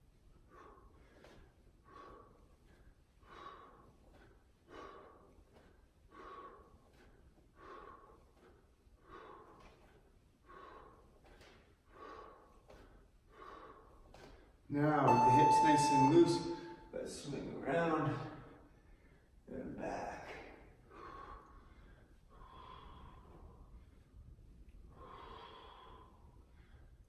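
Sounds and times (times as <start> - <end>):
man breathing rhythmically: 0.0 - 14.7, 18.4 - 19.5, 20.3 - 27.0.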